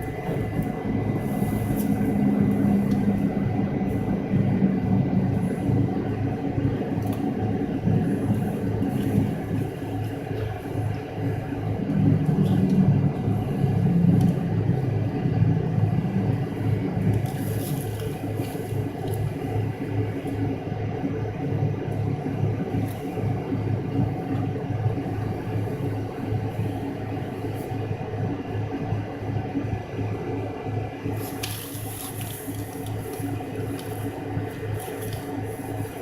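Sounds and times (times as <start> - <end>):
aircraft cabin engine drone: 0.0 - 36.0.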